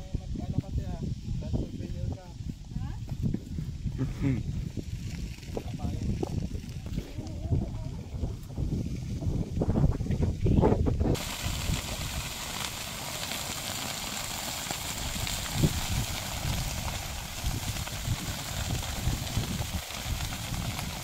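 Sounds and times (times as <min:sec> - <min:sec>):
fire popping: 0:02.6 - 0:21.0
fire crackling: 0:03.5 - 0:21.0.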